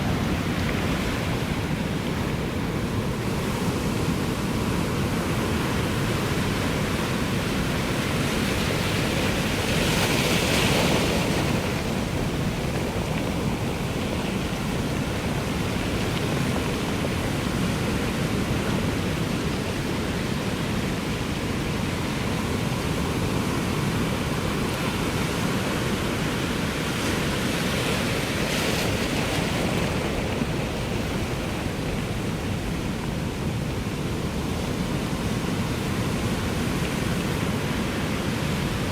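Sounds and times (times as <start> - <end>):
waves breaking: 0.0 - 38.9
waves washing: 0.0 - 38.9.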